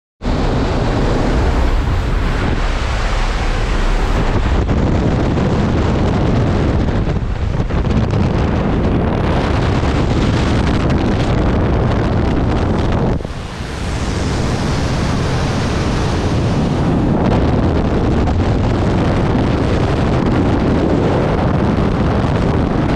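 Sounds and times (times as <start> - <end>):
wind buffeting microphone: 0.2 - 22.9.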